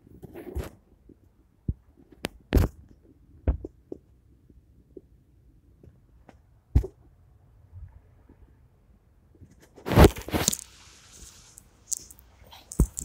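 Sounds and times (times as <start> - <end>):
faint background noise: 0.0 - 13.0.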